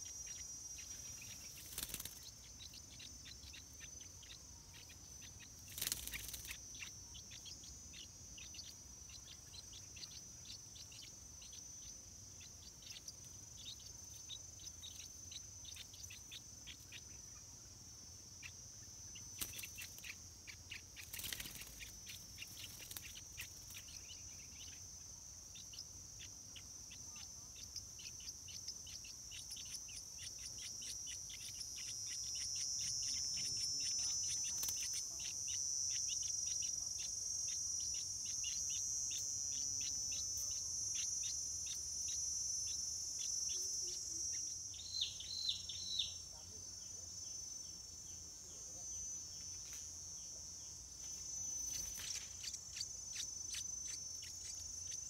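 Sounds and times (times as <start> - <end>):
bird chicks cheeping: 0.0 - 55.0
high insect drone: 0.0 - 55.0.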